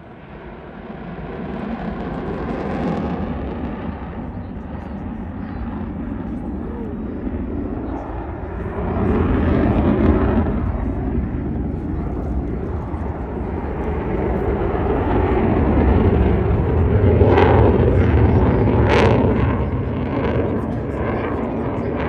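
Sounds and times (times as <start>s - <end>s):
fighter jet roar: 0.0s - 22.0s.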